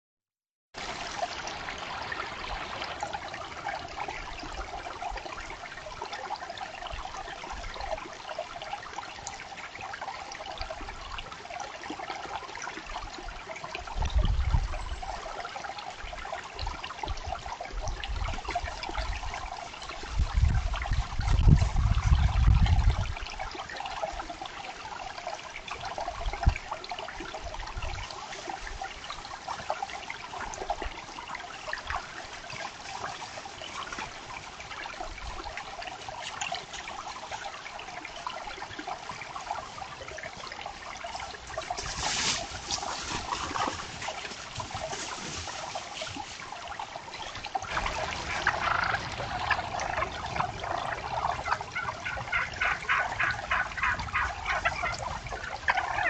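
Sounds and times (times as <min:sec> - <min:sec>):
creek water trickling: 0:00.8 - 0:56.0.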